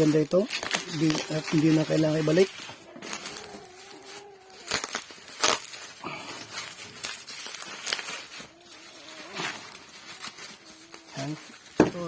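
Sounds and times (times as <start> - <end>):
plastic packaging rustling: 0.0 - 12.0
sharp crackles: 0.0 - 12.0.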